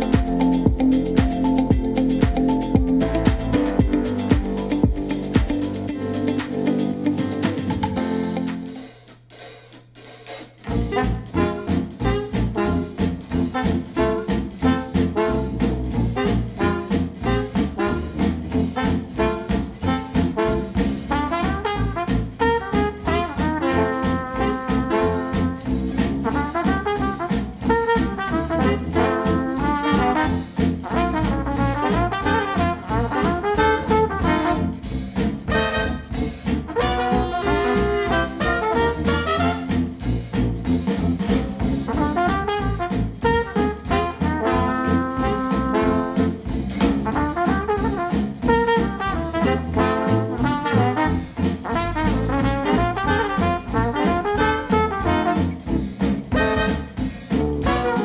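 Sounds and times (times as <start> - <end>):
brass-led jazz instrumental: 0.0 - 58.0.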